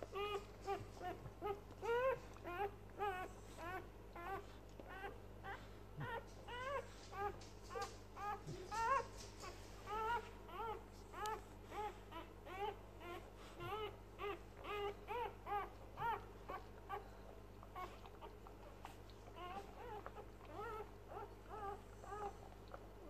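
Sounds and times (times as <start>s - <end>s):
puppy squealing: 0.0s - 22.5s.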